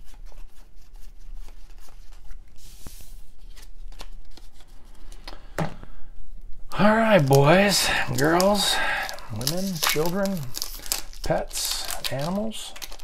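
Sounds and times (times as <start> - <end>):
cards flipped by hand: 0.1 - 5.4, 7.2 - 13.0.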